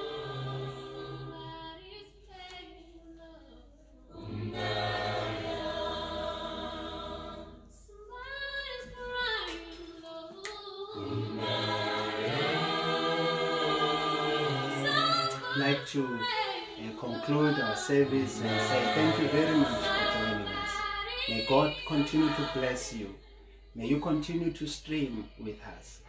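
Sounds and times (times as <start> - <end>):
choir singing a hymn: 0.0 - 2.0, 4.1 - 25.9.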